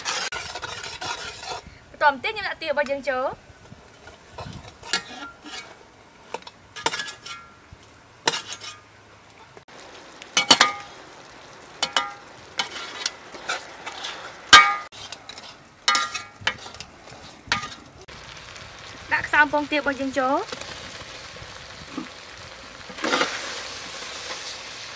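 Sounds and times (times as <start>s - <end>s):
frying sizzle: 0.0s - 1.7s, 3.1s - 24.9s.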